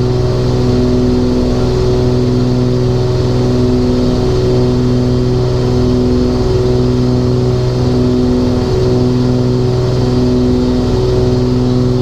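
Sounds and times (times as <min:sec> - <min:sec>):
twin piston aircraft engines droning: 0:00.0 - 0:12.0.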